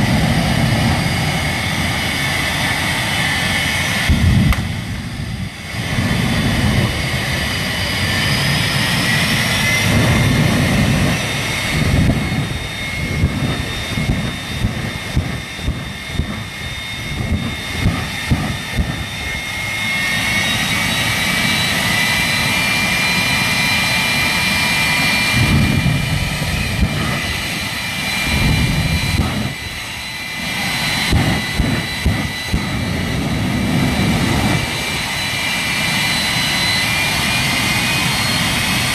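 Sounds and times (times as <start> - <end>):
jet engine turbine whine: 0.0 - 38.9.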